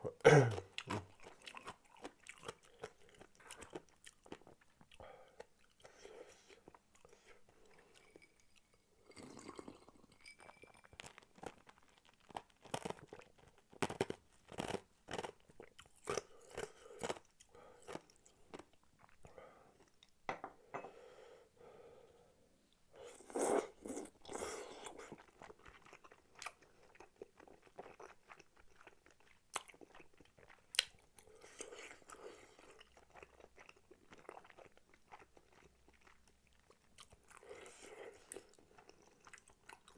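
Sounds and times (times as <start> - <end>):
person chewing: 0.4 - 8.3, 9.1 - 20.1, 23.0 - 39.9.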